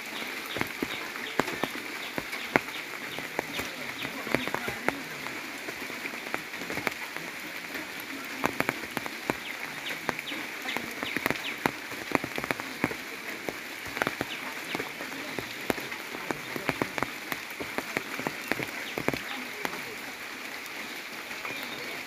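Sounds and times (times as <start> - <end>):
sharp drops ticking: 0.0 - 20.7
steady rain falling: 0.0 - 22.0.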